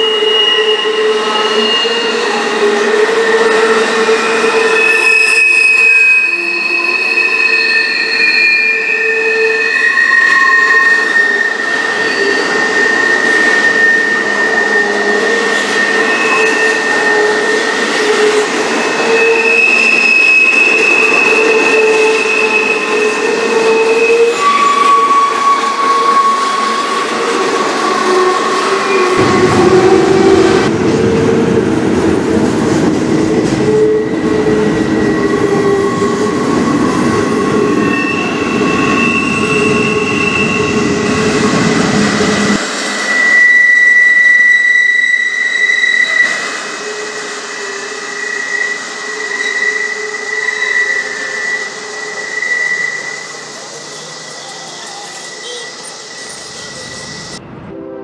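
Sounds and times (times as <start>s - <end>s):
train wheels squealing on rails: 0.0s - 30.7s, 32.8s - 57.4s
rumble and rattle of train cars: 0.0s - 58.0s.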